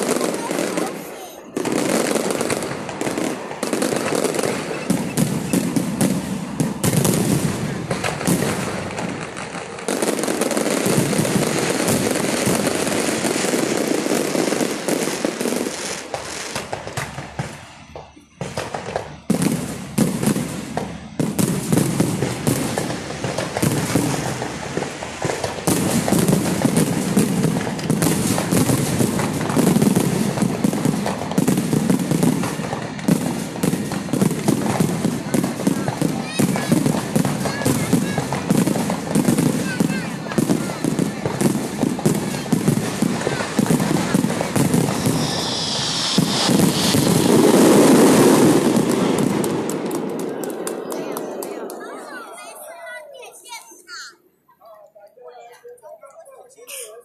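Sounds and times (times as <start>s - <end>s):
firecrackers and fireworks banging: 0.0s - 54.1s.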